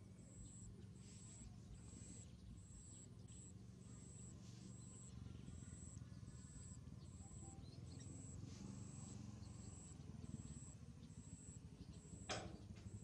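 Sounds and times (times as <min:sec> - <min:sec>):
low background hum: 0:00.0 - 0:13.0
insects chirping: 0:00.1 - 0:13.0.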